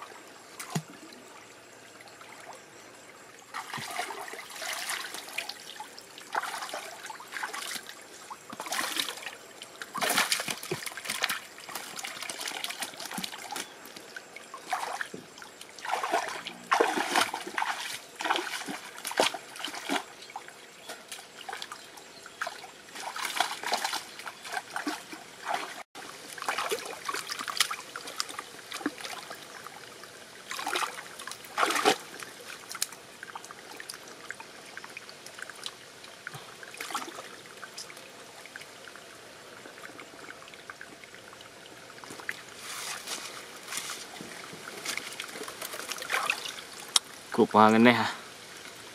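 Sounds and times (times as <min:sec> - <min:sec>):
water splashing and sloshing: 0:00.0 - 0:47.7
stream water trickling: 0:00.0 - 0:48.9.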